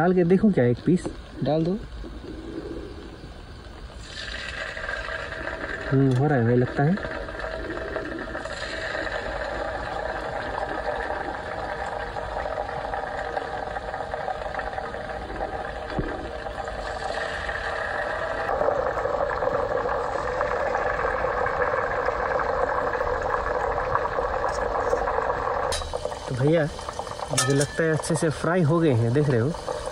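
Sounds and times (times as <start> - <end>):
food sizzling in hot oil: 3.1 - 29.9.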